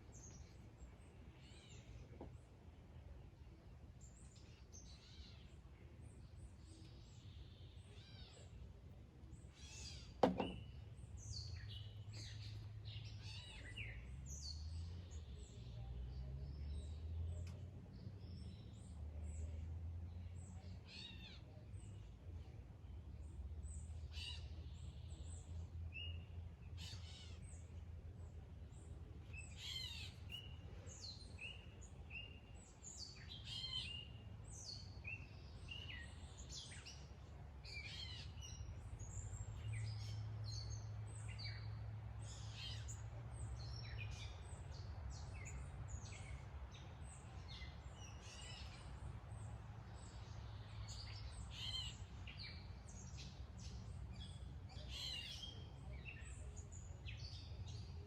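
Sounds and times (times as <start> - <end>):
birds chirping: 0.0 - 22.5, 23.2 - 58.0.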